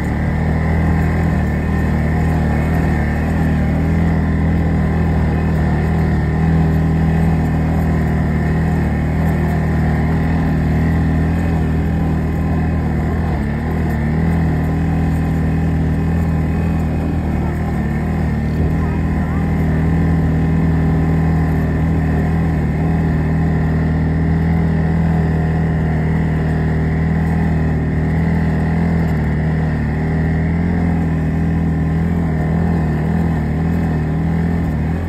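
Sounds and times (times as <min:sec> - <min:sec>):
snowmobile engine droning: 0:00.0 - 0:35.0.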